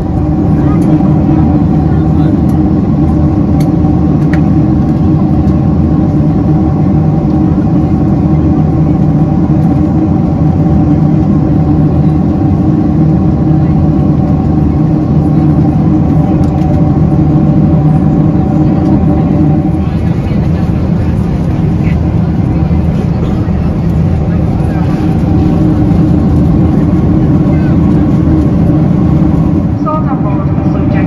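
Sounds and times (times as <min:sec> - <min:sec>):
jet engines humming: 0:00.0 - 0:31.0.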